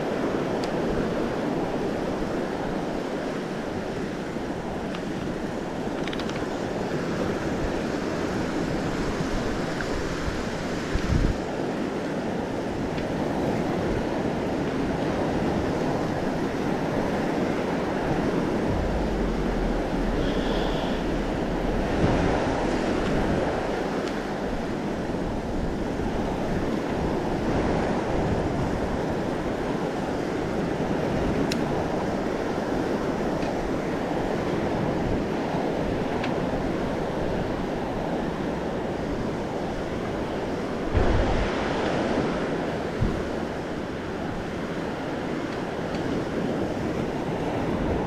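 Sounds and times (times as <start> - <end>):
ocean surf breaking: 0.0 - 48.0
wind rumbling on microphone: 0.0 - 48.0.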